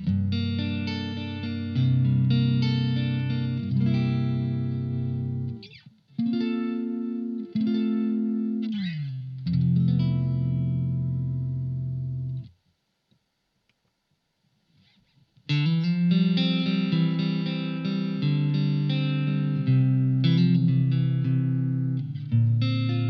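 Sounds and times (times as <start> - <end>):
electric guitar chords: 0.0 - 12.5, 15.5 - 23.0.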